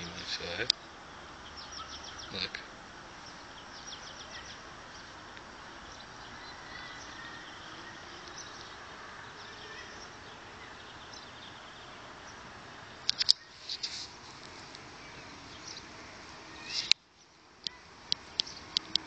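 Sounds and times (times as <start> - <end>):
faint bird chirps: 0.0 - 14.2, 14.9 - 19.0
steady low hiss: 0.0 - 19.0.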